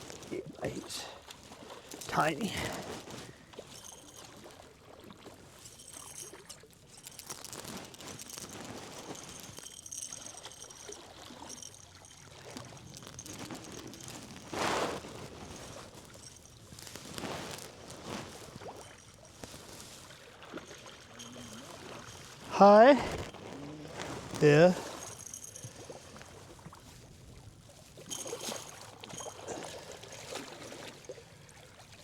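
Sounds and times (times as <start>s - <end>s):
water sloshing around a boat: 0.0s - 32.0s.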